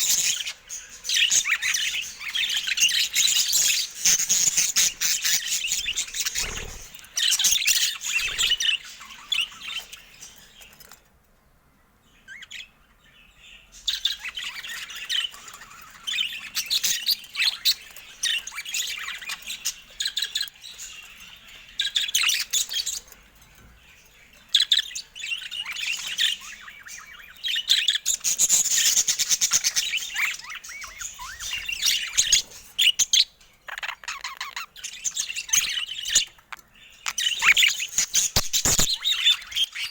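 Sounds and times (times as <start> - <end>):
budgerigars chattering and chirping: 0.0 - 11.0, 12.2 - 39.9.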